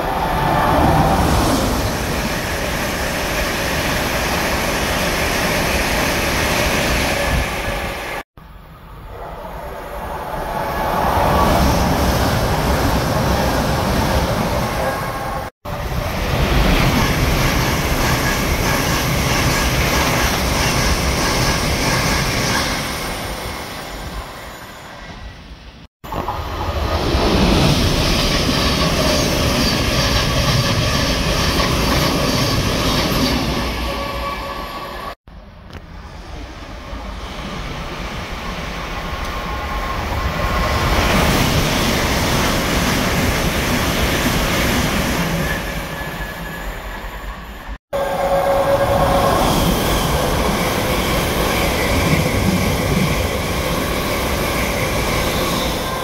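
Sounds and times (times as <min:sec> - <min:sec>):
passenger trains passing at speed: 0:00.0 - 0:56.0.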